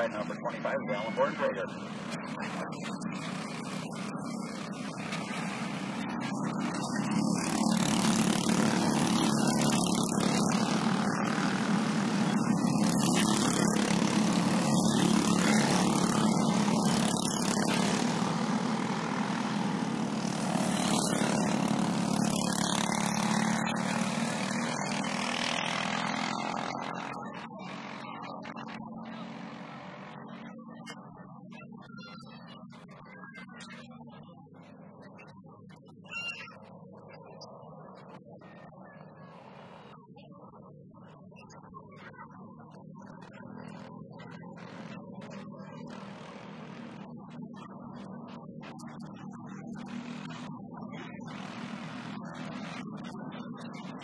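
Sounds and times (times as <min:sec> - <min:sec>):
racing kart engines droning: 0:00.0 - 0:54.0.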